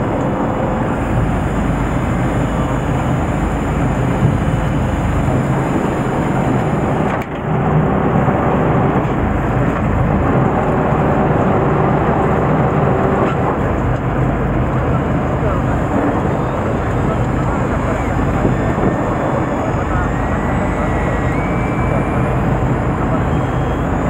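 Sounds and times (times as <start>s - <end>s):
boat engine running: 0.0s - 24.0s
wind noise on microphone: 0.0s - 24.0s.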